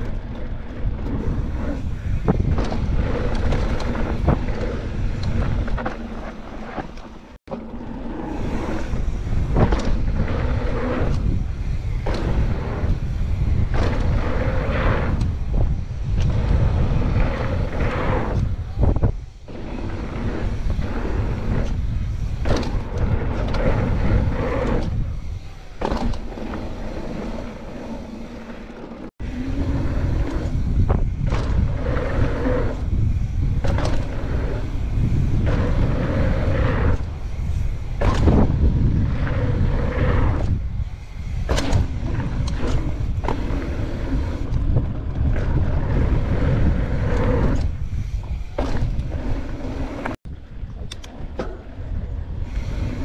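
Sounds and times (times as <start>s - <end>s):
wind buffeting microphone: 0.0s - 7.3s, 7.9s - 28.4s, 29.2s - 53.0s
bike knocks and rattles: 0.0s - 53.0s
bike tyres rumbling on dirt: 0.0s - 53.0s.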